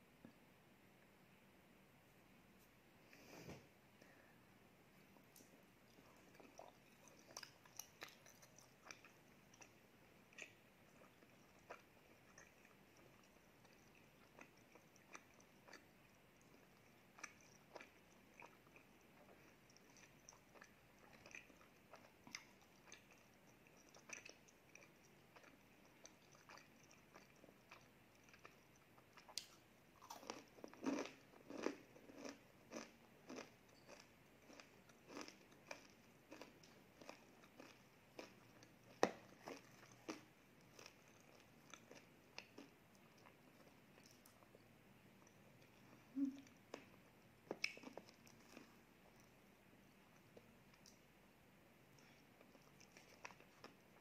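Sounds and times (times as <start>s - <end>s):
mouth clicks and chewing: 5.4s - 44.6s, 45.2s - 49.4s.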